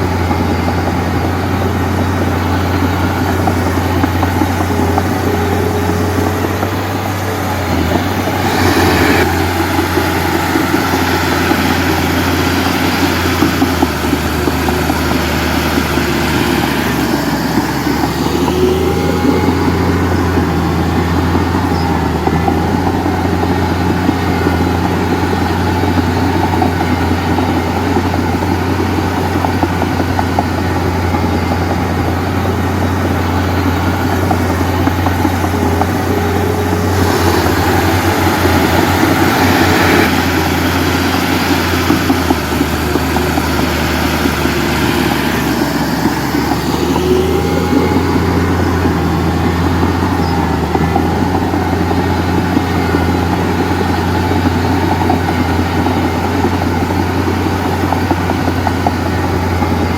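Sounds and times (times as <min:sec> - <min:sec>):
heavy diesel engine humming: 0:00.0 - 0:59.9.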